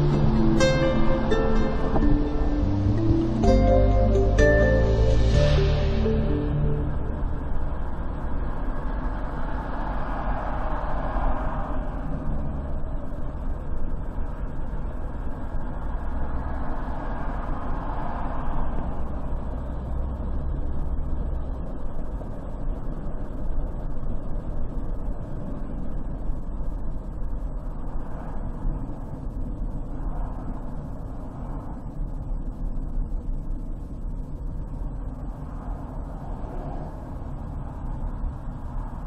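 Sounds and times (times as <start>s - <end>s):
car driving on highway: 0.0s - 39.0s.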